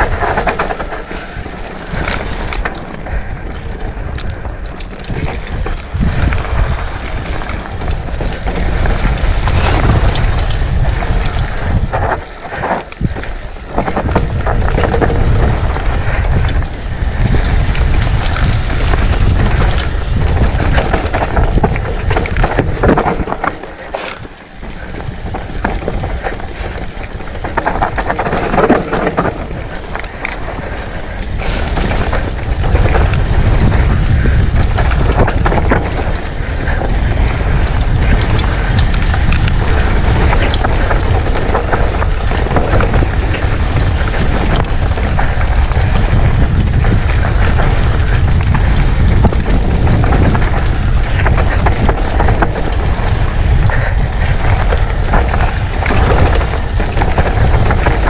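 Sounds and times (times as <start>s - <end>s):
bike rattling over rough ground: 0.0s - 58.0s
tyres crunching on loose dirt: 0.0s - 58.0s
wind buffeting microphone: 0.0s - 58.0s.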